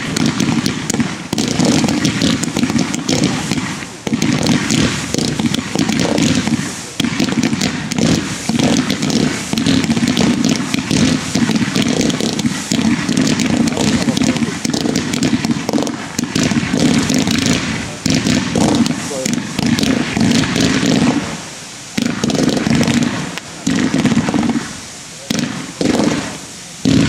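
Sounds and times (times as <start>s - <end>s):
fireworks popping and crackling: 0.0s - 27.0s.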